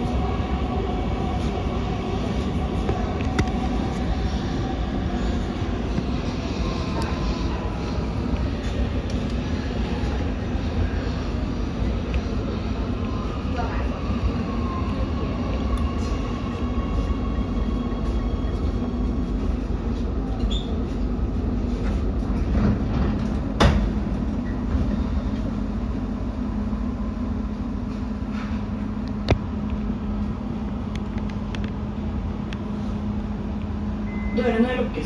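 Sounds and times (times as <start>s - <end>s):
train electrical hum: 0.0s - 35.0s.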